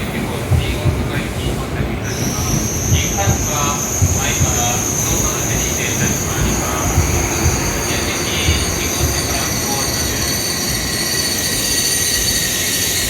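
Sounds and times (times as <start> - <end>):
train rumbling and whining: 0.0 - 13.0.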